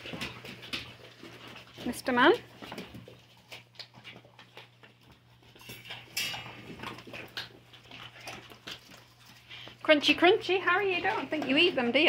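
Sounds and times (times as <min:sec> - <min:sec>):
dogs crunching on bones: 0:00.0 - 0:12.0.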